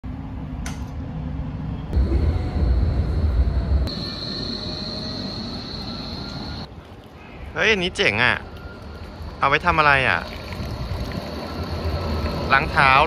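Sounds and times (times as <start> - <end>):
train rumbling with whine: 0.0 - 6.8, 8.5 - 13.0.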